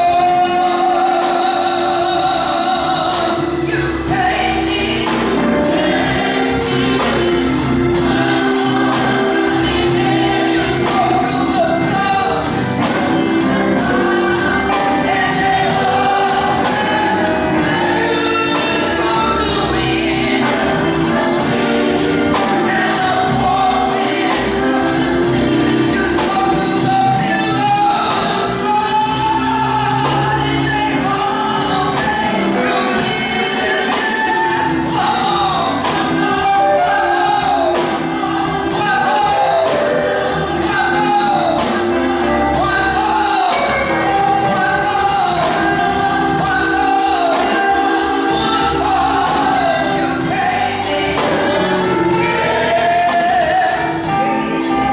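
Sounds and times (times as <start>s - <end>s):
band playing: 0.0s - 54.9s
gospel choir singing: 0.0s - 54.9s
percussive beat: 1.7s - 54.9s.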